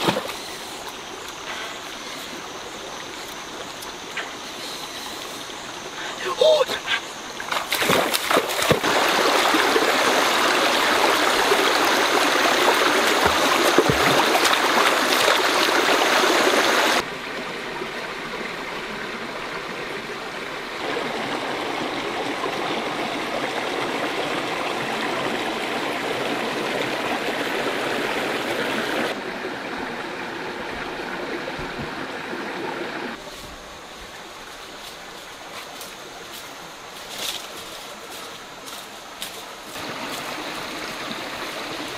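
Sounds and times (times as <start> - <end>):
stream running over rocks: 0.0 - 41.9.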